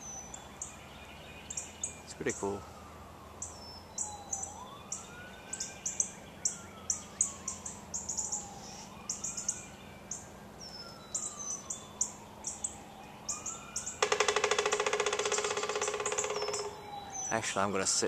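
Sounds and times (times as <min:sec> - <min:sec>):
faint siren wailing: 0:00.0 - 0:18.0
small birds chirping: 0:00.0 - 0:18.0.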